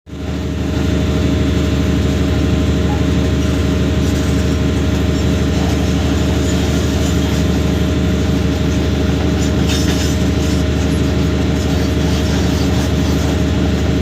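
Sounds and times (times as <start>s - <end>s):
excavator diesel engine running: 0.1s - 14.0s.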